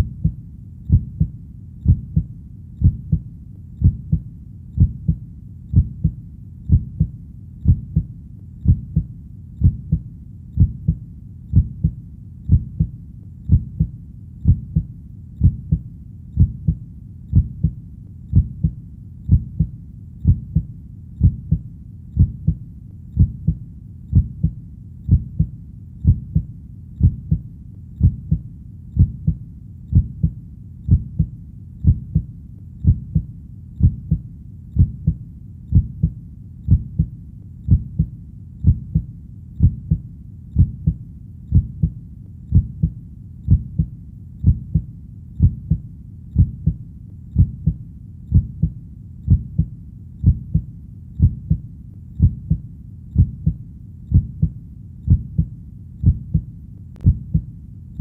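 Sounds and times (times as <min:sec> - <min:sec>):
heartbeat thumps: 0:00.0 - 0:57.5.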